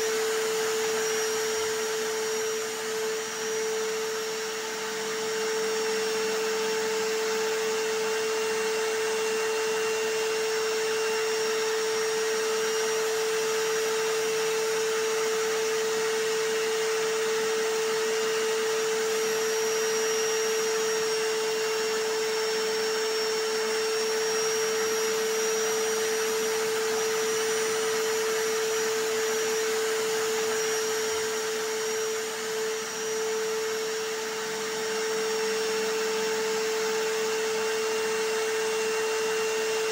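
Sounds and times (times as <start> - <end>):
hammer drill running: 0.0 - 39.9
vacuum cleaner: 0.0 - 39.9.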